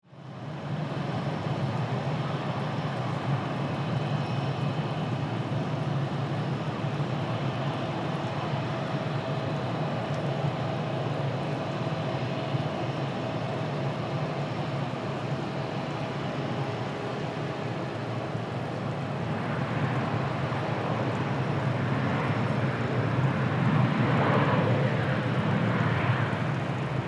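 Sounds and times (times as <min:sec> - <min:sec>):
jet engine noise: 0:00.2 - 0:27.0.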